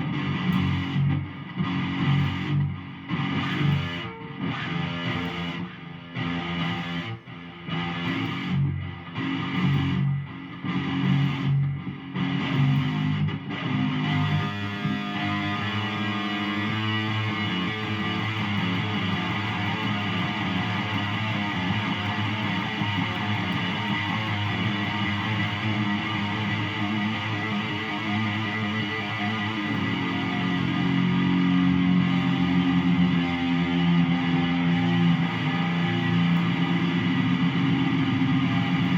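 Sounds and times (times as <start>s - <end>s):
distorted electric guitar riffs: 0.0s - 38.9s.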